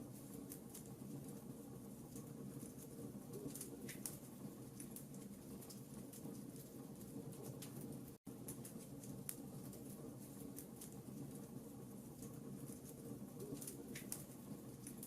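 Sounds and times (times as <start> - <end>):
low steady rumble: 0.0 - 15.0
wood fire crackling and popping: 0.0 - 15.0.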